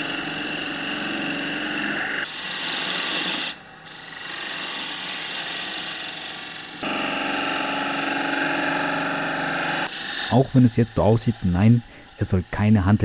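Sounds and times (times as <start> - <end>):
chisel cutting wood on lathe: 0.0 - 13.0.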